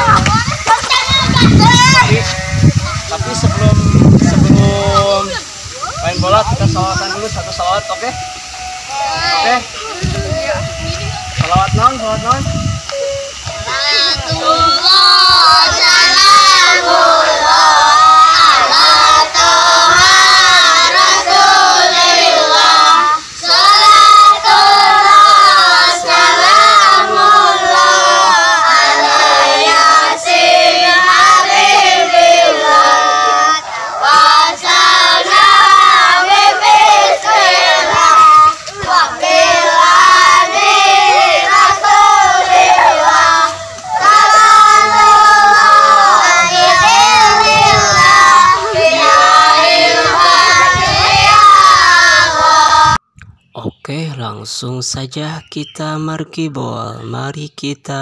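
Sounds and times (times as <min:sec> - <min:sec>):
boys singing in unison: 0:00.0 - 0:10.8, 0:11.4 - 0:53.0.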